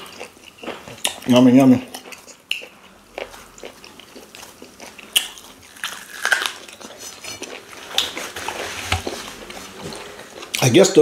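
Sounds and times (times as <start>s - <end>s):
chewing and mouth smacks: 0.0s - 10.6s.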